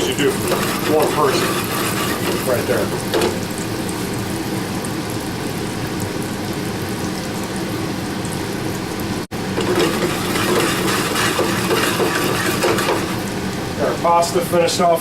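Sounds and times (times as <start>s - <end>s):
chicken frying in a pan: 0.0s - 15.0s.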